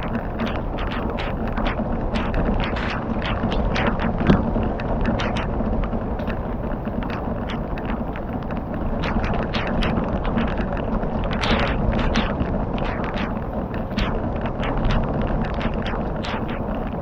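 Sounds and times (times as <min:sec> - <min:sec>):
fire crackling and popping: 0:00.0 - 0:17.0
low rushing noise: 0:00.0 - 0:17.0
wind buffeting microphone: 0:00.0 - 0:17.0.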